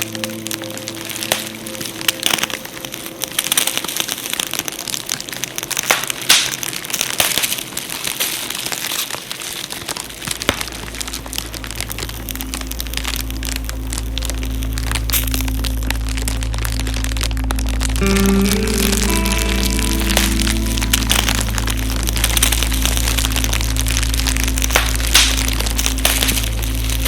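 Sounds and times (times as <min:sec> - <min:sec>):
soft background music: 0:00.0 - 0:07.5, 0:10.1 - 0:27.0
wood fire crackling and popping: 0:00.0 - 0:27.0.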